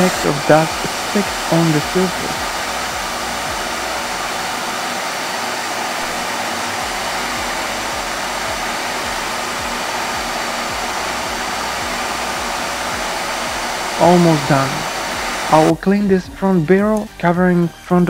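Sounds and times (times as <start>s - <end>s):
steady rushing noise: 0.0s - 15.7s.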